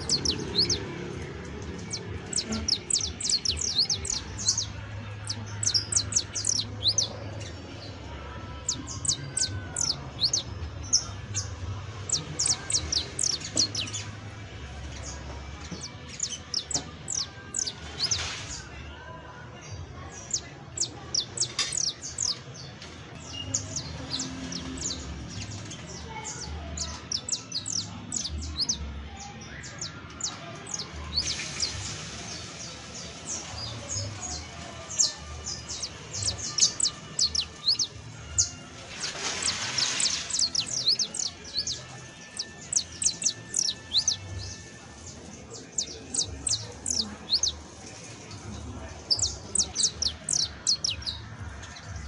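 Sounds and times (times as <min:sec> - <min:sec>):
finch singing high chirps: 0:00.0 - 0:08.0, 0:08.6 - 0:18.6, 0:20.1 - 0:28.8, 0:29.4 - 0:52.0.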